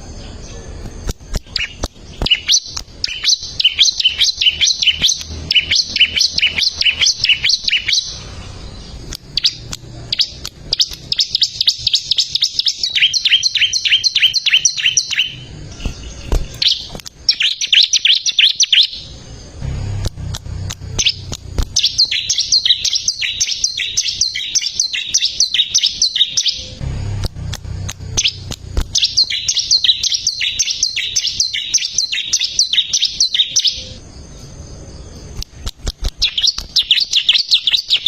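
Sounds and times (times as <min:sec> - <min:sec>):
bird singing high chirps: 0:00.0 - 0:26.8, 0:27.8 - 0:38.0.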